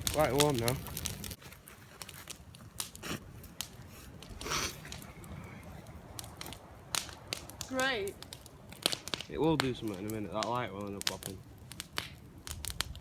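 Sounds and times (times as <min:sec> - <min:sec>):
campfire crackling: 0:00.0 - 0:13.0
fire pops: 0:00.0 - 0:13.0.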